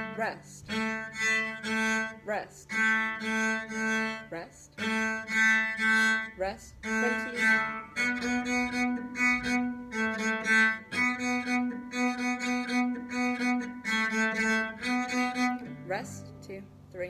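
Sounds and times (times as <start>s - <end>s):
bowed strings sustained notes: 0.0s - 17.0s
cello plucked pizzicato: 0.0s - 17.0s.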